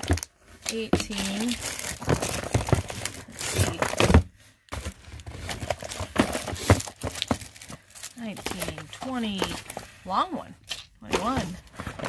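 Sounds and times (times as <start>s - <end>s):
boxes rummaged in carton: 0.0s - 10.2s, 11.0s - 12.0s.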